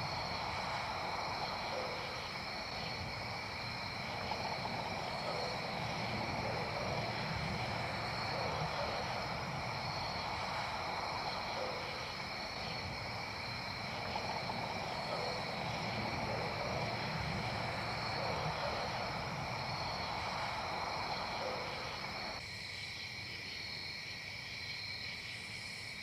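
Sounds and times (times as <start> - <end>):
low even hiss: 0.0 - 22.4
crickets trilling: 0.0 - 26.0.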